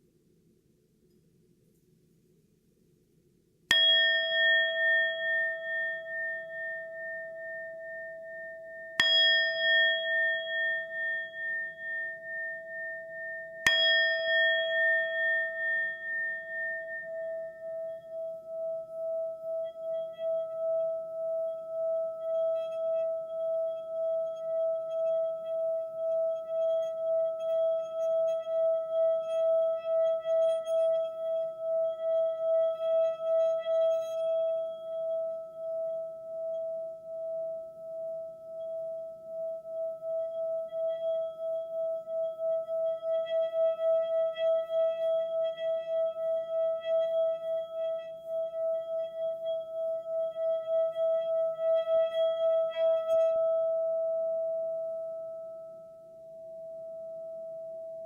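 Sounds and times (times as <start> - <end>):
singing bowl ringing: 3.7 - 58.0.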